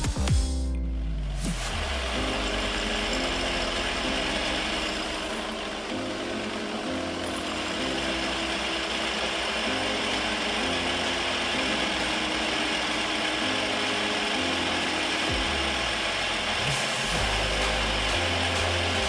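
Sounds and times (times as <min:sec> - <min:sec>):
background music with bass line: 0:00.0 - 0:19.0
pillar drill whirring: 0:01.5 - 0:19.0
drill bit cutting metal: 0:01.6 - 0:19.0.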